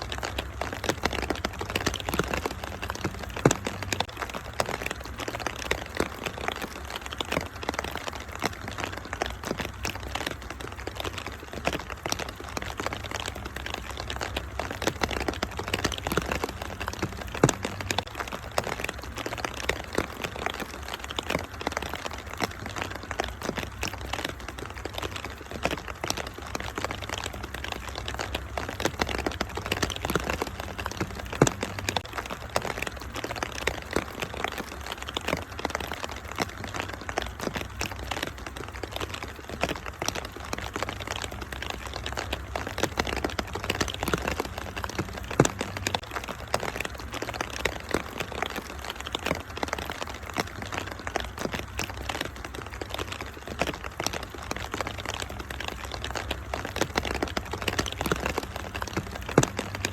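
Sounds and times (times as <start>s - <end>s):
rain pattering: 0.0s - 59.9s
wood fire crackling: 0.0s - 59.9s.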